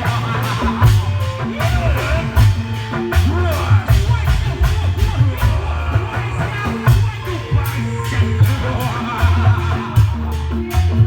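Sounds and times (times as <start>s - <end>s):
drums beating busy rhythm: 0.0s - 11.0s
struck percussion: 0.0s - 11.0s
voices: 0.0s - 11.0s.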